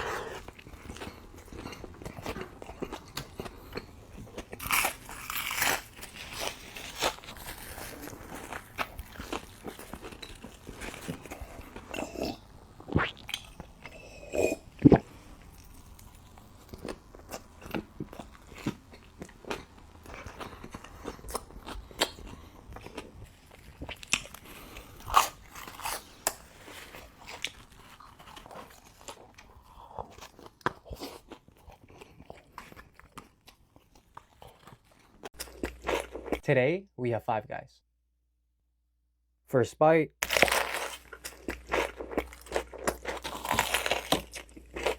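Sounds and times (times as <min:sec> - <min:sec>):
chewing: 0:00.0 - 0:36.4
crunchy food bites: 0:00.6 - 0:36.4, 0:40.2 - 0:44.9.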